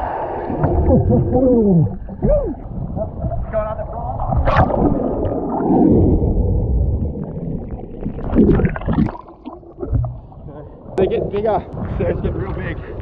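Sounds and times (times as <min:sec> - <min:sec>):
underwater surf rumbling and gurgling: 0:00.0 - 0:13.0.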